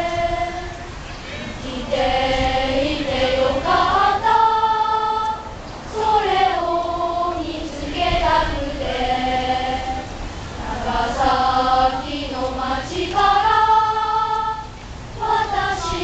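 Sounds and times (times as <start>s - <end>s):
children singing in unison: 0.0s - 16.0s.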